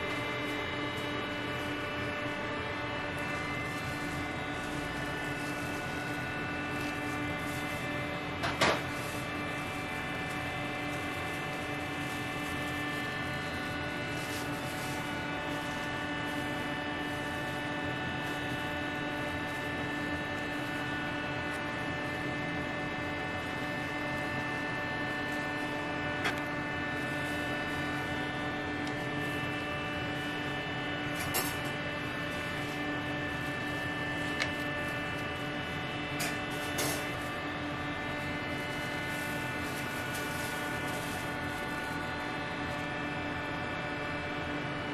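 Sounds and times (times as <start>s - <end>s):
kitchen machinery hum: 0.0s - 44.9s.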